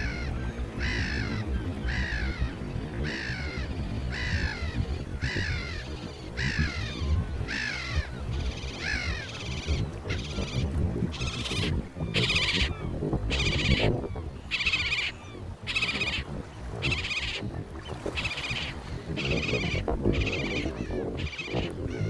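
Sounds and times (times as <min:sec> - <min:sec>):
steady low rumble: 0:00.0 - 0:18.1
seagull calling: 0:00.0 - 0:22.0.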